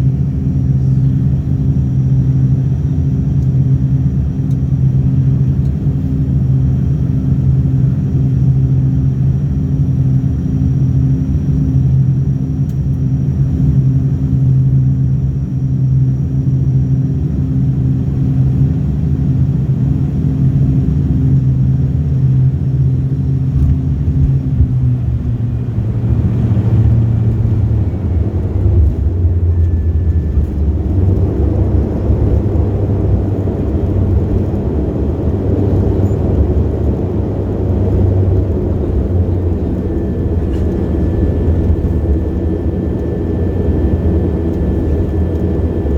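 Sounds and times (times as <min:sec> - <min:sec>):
airliner engines rumbling: 0:00.0 - 0:45.9
engine hum: 0:00.0 - 0:45.9.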